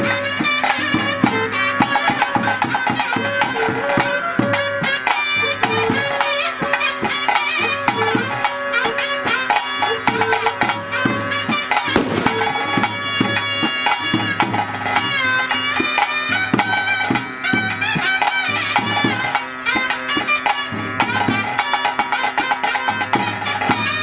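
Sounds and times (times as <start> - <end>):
shrill reed pipe melody: 0.0 - 24.0
steady drumming: 0.0 - 24.0.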